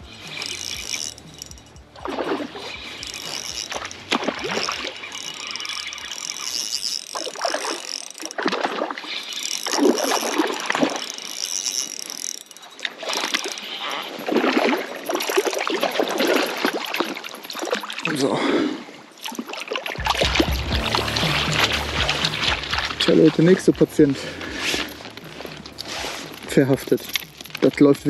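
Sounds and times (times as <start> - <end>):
fishing reel cranking: 0.0 - 18.2, 19.1 - 28.0
fish thrashing and splashing: 0.0 - 18.3, 18.9 - 28.0.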